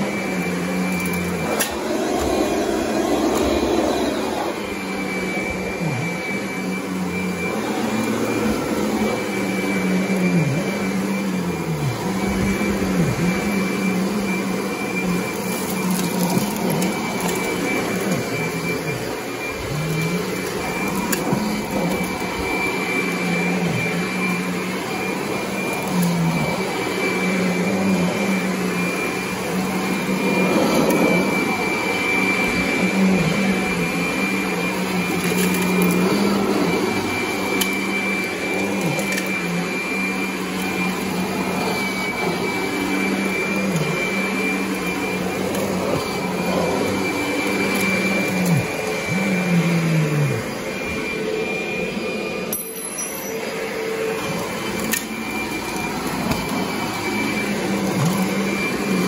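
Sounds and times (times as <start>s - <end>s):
vacuum cleaner motor whining: 0.0s - 59.0s.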